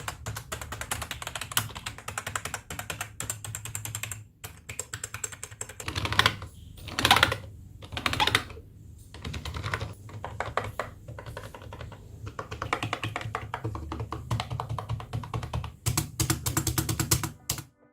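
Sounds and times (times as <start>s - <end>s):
rapid keyboard typing: 0.0s - 17.7s.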